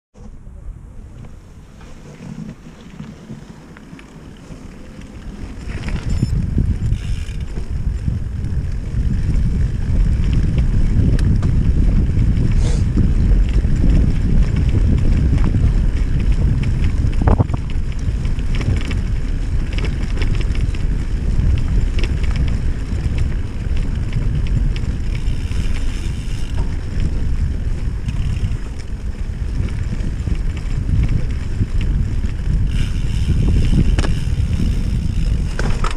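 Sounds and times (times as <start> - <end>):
wind rumble on microphone: 0.2 - 35.9
bicycle tyres on grass: 1.1 - 35.9
bike clicks and rattles: 1.2 - 35.9.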